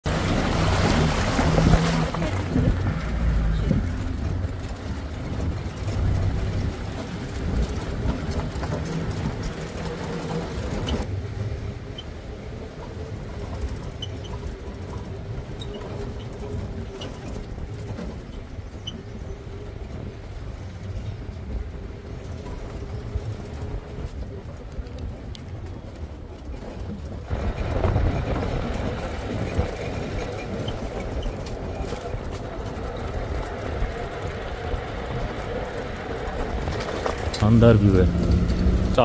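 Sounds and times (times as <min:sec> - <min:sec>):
road rumble: 0:00.0 - 0:39.0
vehicle engine drone: 0:00.0 - 0:39.0.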